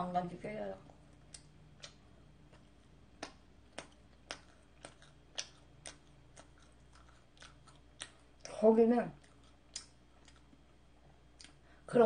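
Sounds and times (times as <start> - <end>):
person chewing pasta: 1.0 - 8.6, 9.2 - 11.7.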